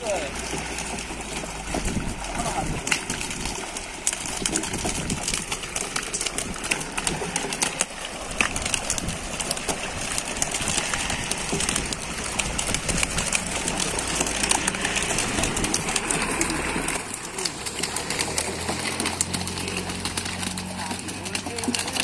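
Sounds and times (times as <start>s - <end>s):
fish thrashing and splashing: 0.0s - 22.0s.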